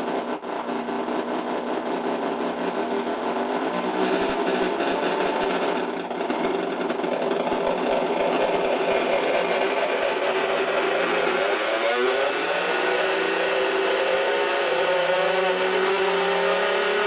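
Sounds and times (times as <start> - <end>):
buzzy square-wave synth drones: 0.0 - 17.0.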